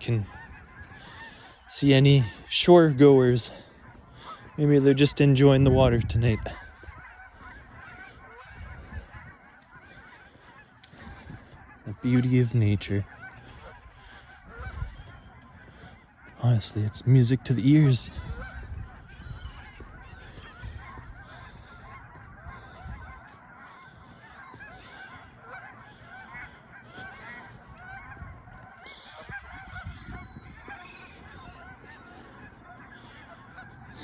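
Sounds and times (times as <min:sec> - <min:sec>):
flock of geese honking: 0:00.0 - 0:34.0.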